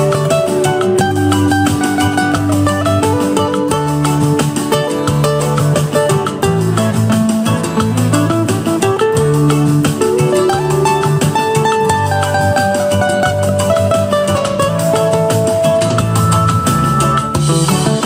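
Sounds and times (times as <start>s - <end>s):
acoustic guitar latin piece: 0.0s - 18.0s.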